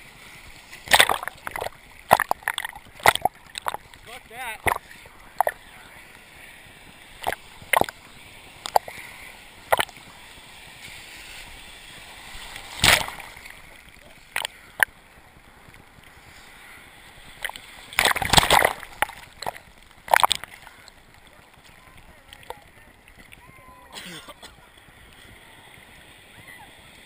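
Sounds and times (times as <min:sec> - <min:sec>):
seawater splashing: 0:00.0 - 0:27.0.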